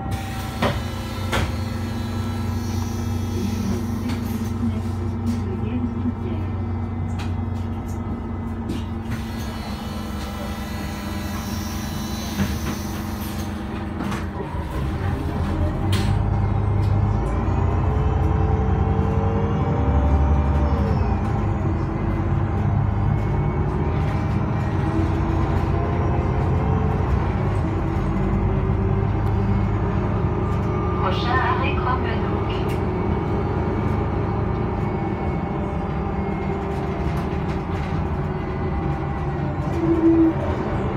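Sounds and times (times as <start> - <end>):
bus engine hum: 0.0 - 40.9
road rumble: 0.0 - 40.9.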